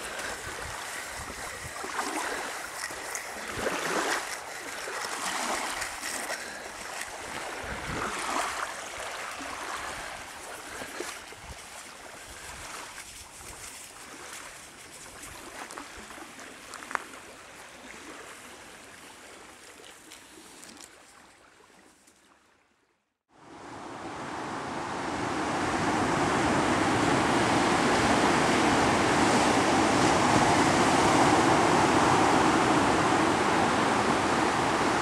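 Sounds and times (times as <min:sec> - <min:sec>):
small waves lapping on sand: 0:00.0 - 0:22.6, 0:23.3 - 0:35.0.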